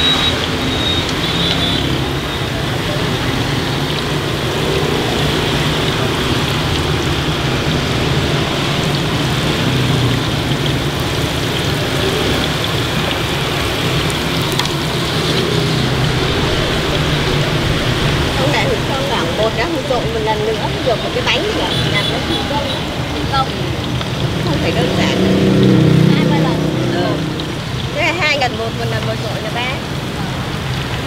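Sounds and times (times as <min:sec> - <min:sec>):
food deep-frying in oil: 0:00.0 - 0:31.0.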